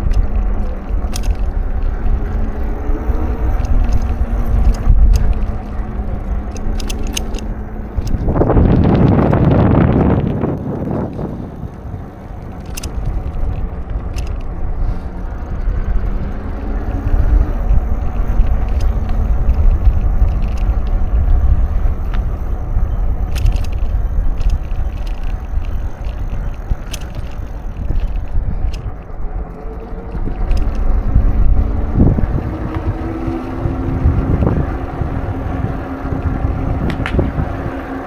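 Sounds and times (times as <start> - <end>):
light rattling clicks: 0.0 - 38.0
tyres and wind rumble: 0.0 - 38.0
vehicle passing: 0.0 - 38.0.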